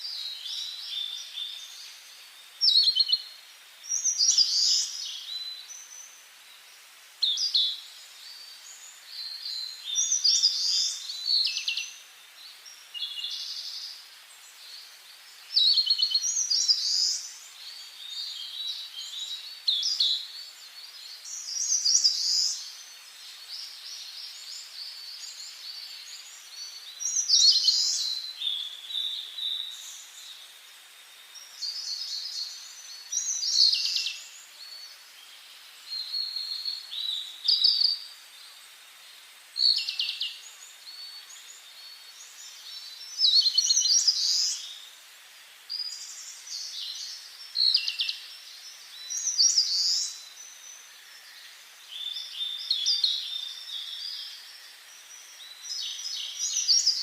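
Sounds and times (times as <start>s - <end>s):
soft steady hiss: 0.0s - 57.0s
songbirds singing: 0.0s - 57.0s.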